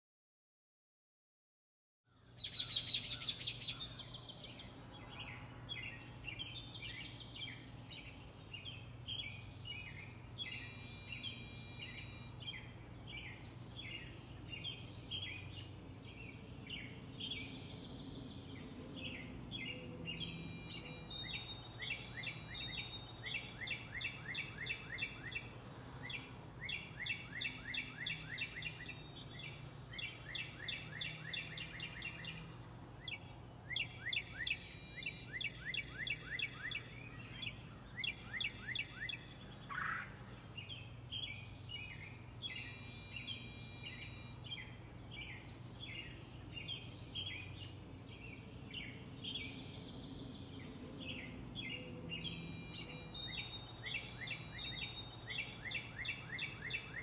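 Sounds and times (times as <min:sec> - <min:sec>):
songbirds chirping and trilling: 0:02.0 - 0:57.0.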